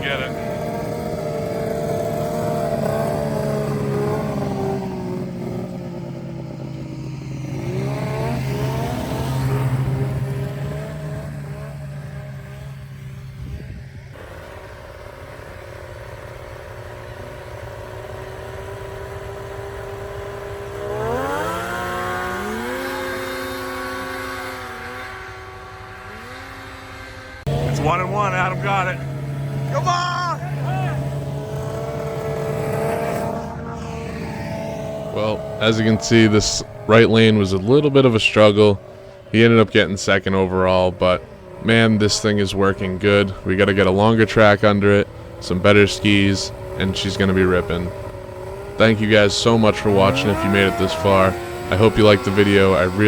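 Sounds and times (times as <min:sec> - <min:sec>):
snowmobile engines racing: 0:00.0 - 0:53.0.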